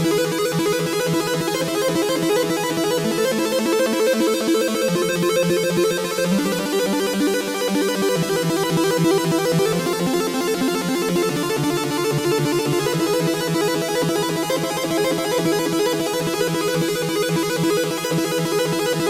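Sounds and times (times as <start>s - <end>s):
arpeggiated synthesizer notes: 0.2s - 19.0s.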